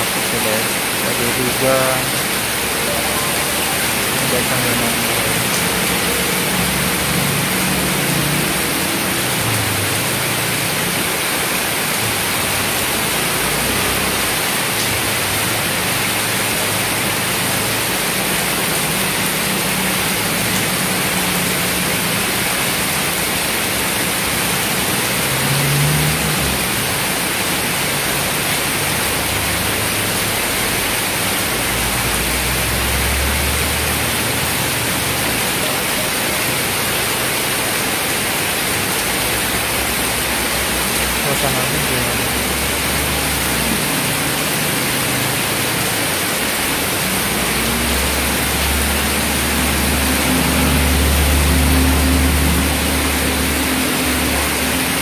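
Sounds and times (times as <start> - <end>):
heavy rain pouring: 0.0 - 55.0
vehicles passing on wet road: 0.0 - 55.0.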